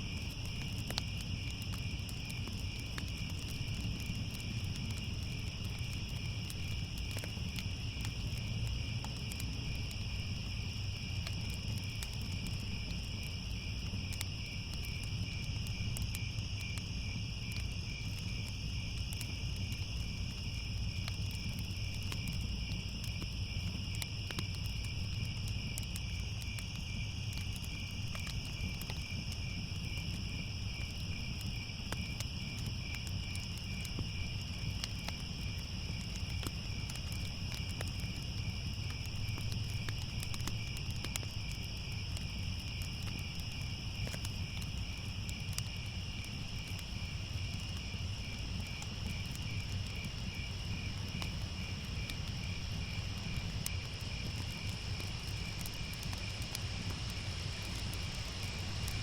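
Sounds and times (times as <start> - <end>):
crickets chirping: 0.0 - 59.0
faint crackles: 0.1 - 59.0.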